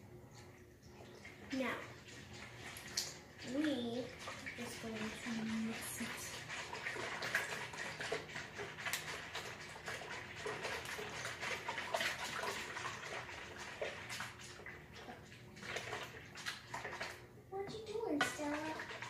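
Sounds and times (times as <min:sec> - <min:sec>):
stirring liquid in plastic bowl: 0:00.4 - 0:19.0.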